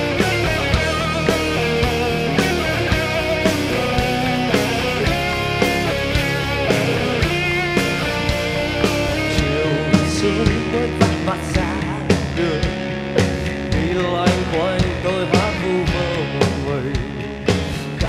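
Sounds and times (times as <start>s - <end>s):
drums and bass: 0.0s - 18.0s
electric guitar bending notes: 0.0s - 18.0s.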